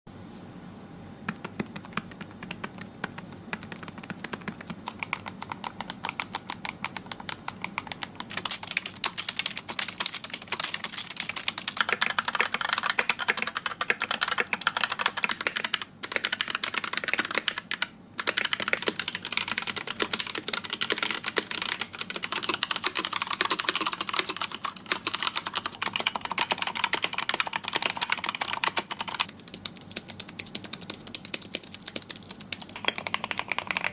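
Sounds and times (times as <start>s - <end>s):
fast typing on keyboard: 1.3s - 33.9s.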